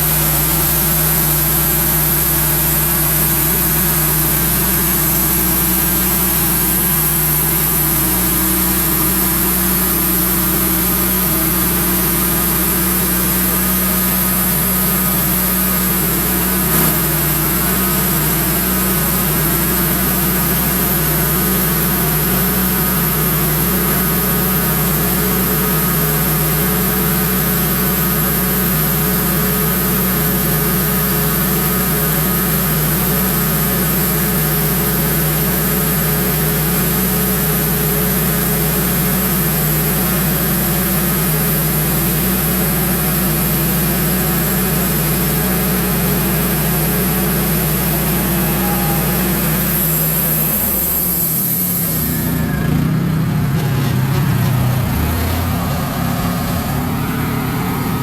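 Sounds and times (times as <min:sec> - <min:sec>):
bandsaw sawmill running: 0:00.0 - 0:58.0.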